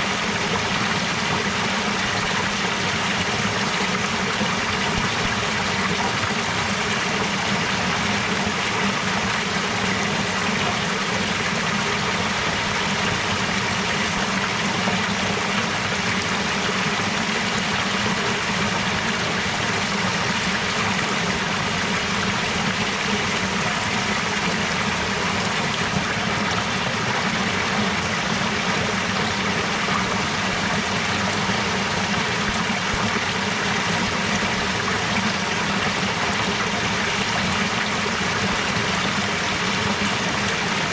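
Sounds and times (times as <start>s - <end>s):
stream of water running: 0.0s - 40.9s.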